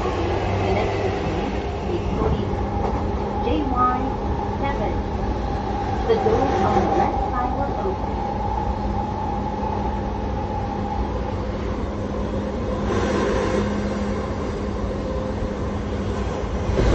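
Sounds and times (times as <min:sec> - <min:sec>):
train rumble and rail noise: 0:00.0 - 0:16.9.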